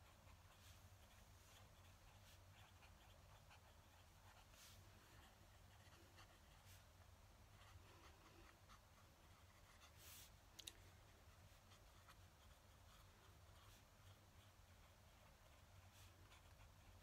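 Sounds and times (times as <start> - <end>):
pen nib scratching on paper: 0.0 - 10.4, 11.0 - 17.0.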